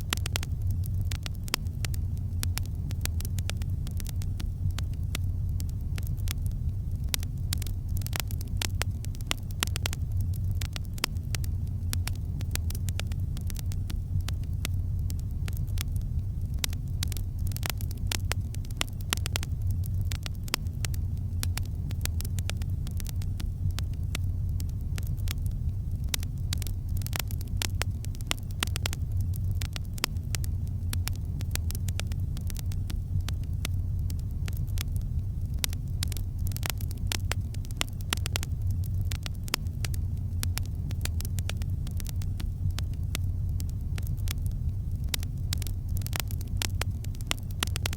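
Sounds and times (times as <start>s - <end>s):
campfire crackling and popping: 0.0s - 47.9s
low fire rumble: 0.0s - 47.9s.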